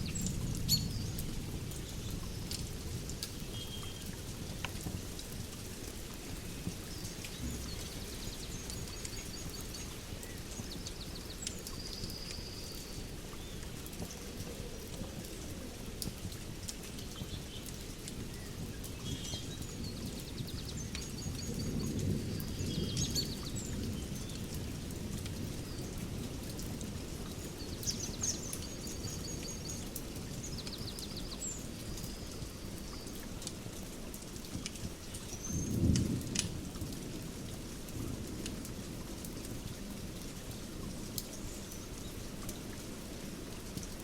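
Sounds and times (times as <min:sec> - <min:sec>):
steady hiss with crackles: 0:00.0 - 0:44.0.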